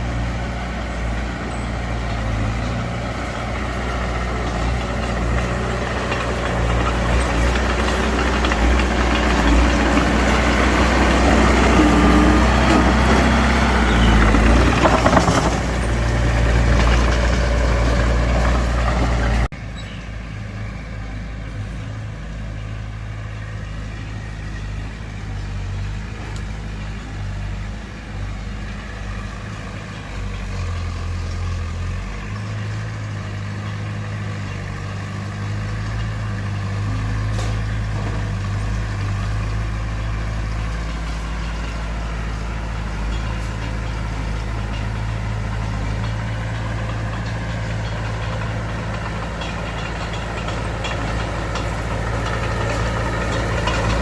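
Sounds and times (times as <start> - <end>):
heavy diesel machinery engine: 0.0 - 54.0.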